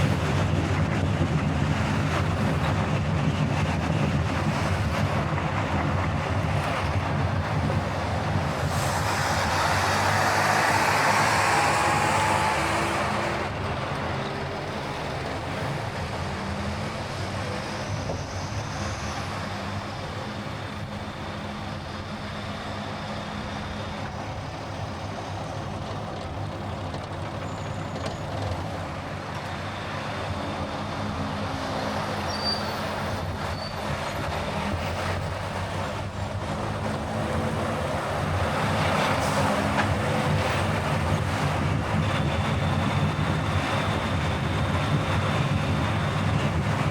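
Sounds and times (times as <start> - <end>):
car engine and tyre noise: 0.0 - 46.9.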